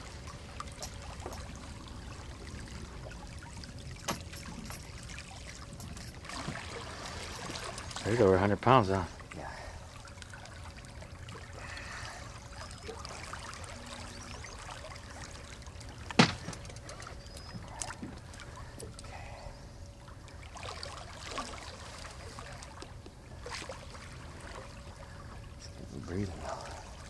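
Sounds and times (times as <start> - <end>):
faint hum: 0.0 - 27.0
water lapping against boat: 0.0 - 27.0.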